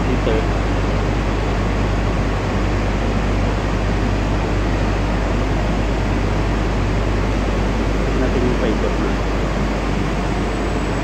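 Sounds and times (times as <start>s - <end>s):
constant low hum: 0.0s - 11.0s.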